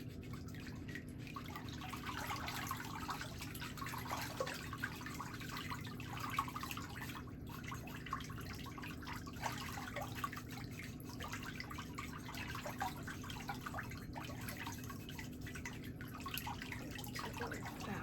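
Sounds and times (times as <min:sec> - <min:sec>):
water dripping into a basin: 0:00.0 - 0:18.0.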